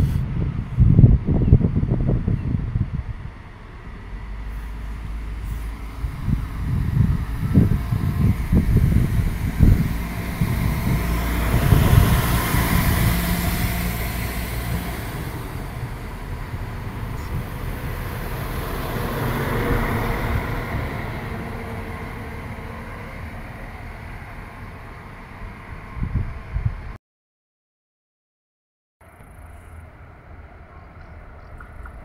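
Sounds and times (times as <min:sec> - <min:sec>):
diesel railcar passing: 0:00.0 - 0:27.0, 0:29.0 - 0:32.0.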